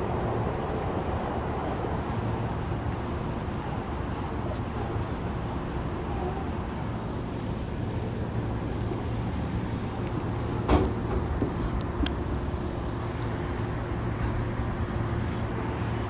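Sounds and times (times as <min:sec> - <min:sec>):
train car interior hum: 0:00.0 - 0:16.0.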